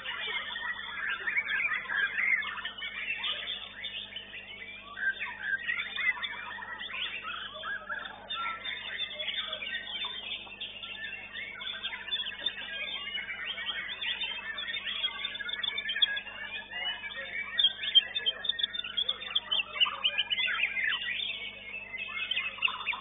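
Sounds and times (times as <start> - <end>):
caged songbirds singing: 0.0 - 23.0.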